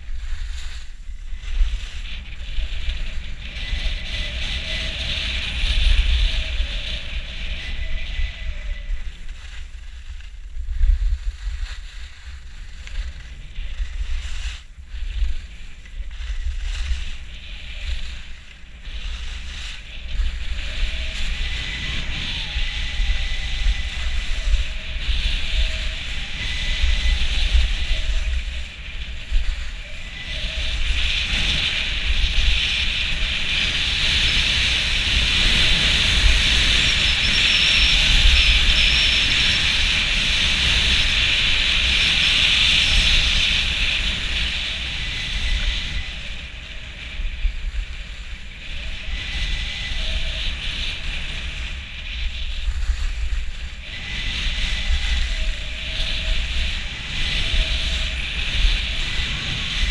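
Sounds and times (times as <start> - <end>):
skis hissing over snow: 0.0 - 59.9
wind rumbling: 0.0 - 59.9.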